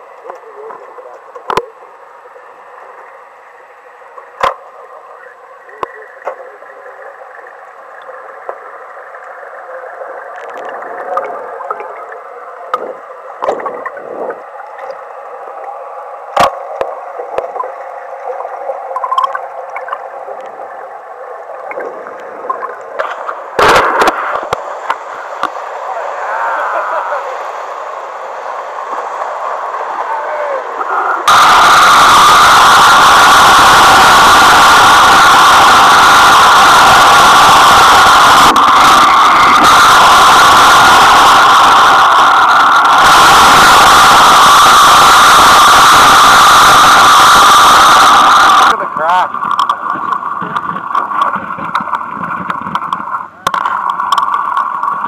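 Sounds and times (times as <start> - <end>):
muffled underwater gurgling: 0.0 - 55.0.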